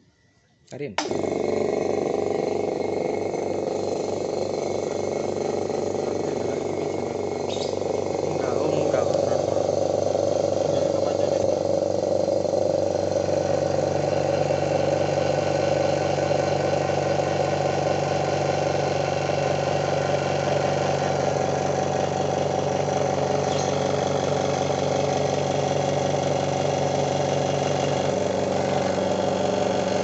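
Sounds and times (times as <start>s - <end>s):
air compressor motor running: 0.0s - 30.0s.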